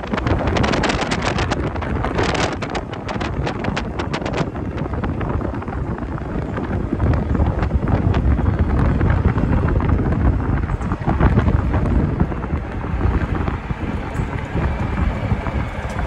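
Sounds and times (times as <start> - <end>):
low rumble of cart on pavement: 0.0 - 16.0
wind buffeting microphone: 0.0 - 16.0.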